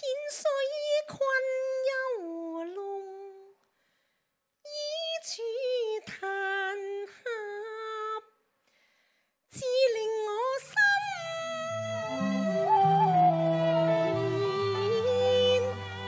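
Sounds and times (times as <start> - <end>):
woman singing opera unaccompanied: 0.0 - 3.5, 4.6 - 8.3, 9.5 - 16.0.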